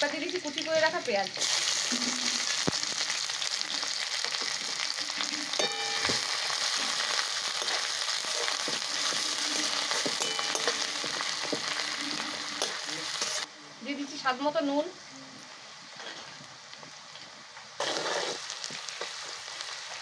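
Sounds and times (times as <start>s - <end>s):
onion sizzling in oil: 0.0s - 20.0s.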